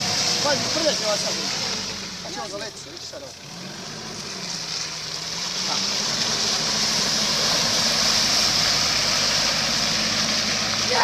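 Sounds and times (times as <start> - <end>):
off-road vehicle engine under load: 0.0 - 11.0
water and mud splashing: 0.0 - 11.0.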